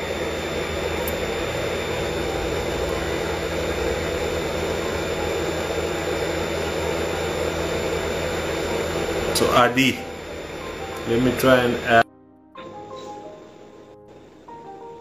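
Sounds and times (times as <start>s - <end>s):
air conditioning hiss and hum: 0.0s - 15.0s
faint high whine: 0.0s - 15.0s.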